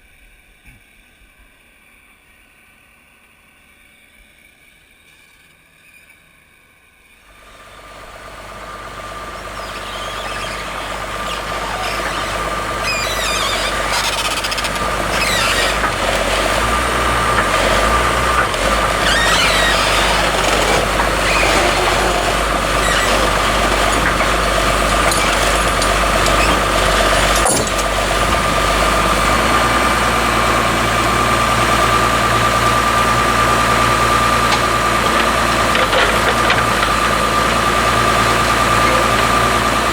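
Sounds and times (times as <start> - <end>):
sawmill machinery running: 1.6 - 39.9.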